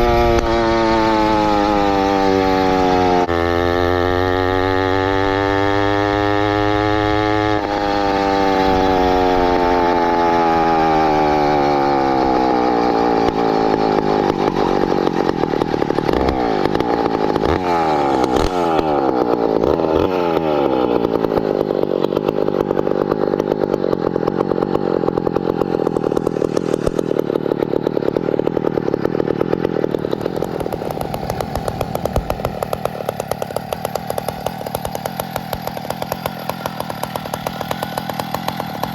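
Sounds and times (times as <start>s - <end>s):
small motorized bicycle engine: 0.0s - 38.9s.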